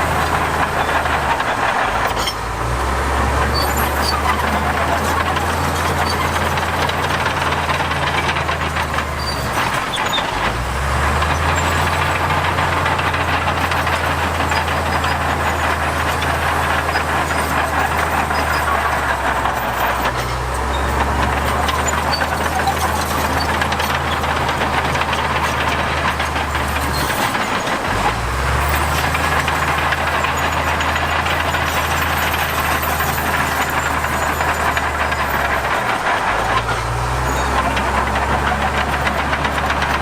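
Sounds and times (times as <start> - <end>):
heavy diesel engine under load: 0.0 - 40.0.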